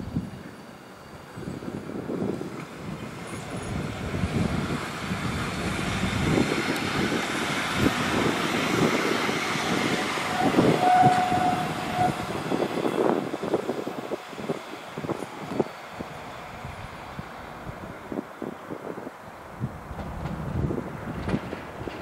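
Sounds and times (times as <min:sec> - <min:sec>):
tram wheels rumbling over rails: 0:00.0 - 0:22.0.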